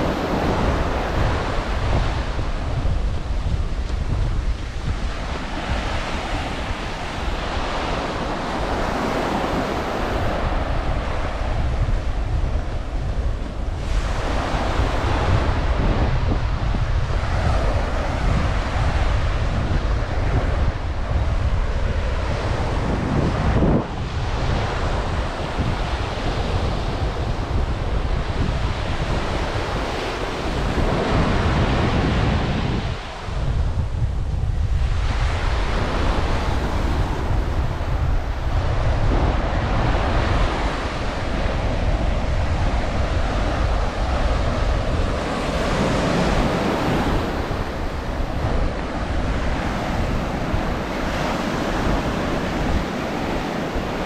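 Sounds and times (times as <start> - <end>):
ocean surf breaking on sand: 0.0 - 54.0
wind rumbling on microphone: 0.0 - 54.0.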